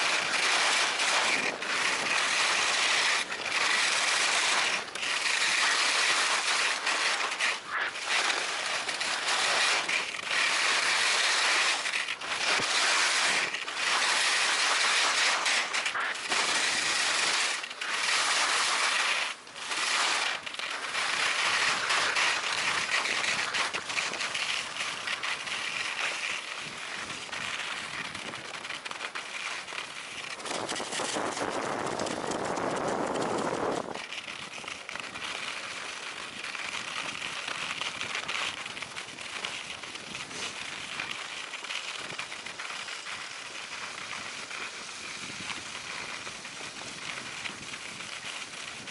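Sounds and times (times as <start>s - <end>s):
skis hissing over snow: 0.0s - 48.9s.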